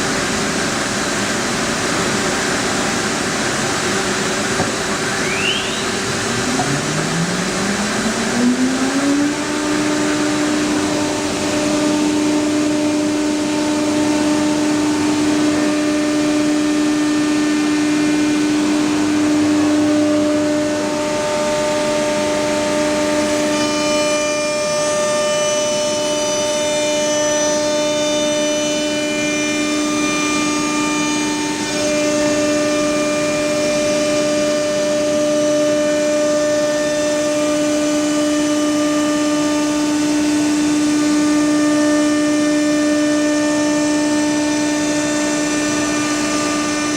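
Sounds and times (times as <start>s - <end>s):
router spindle whining: 3.9s - 46.9s.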